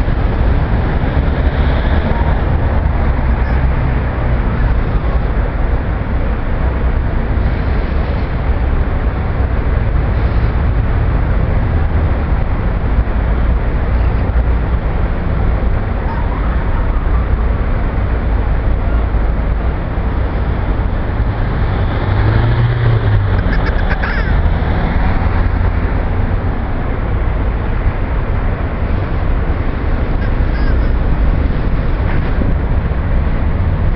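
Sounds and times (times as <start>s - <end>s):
low rumble of road traffic: 0.0s - 33.9s.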